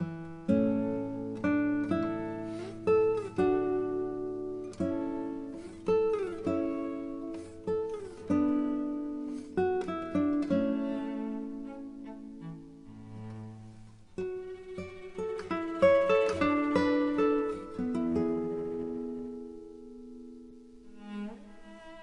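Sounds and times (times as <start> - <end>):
slow picked guitar melody: 0.0 - 22.0.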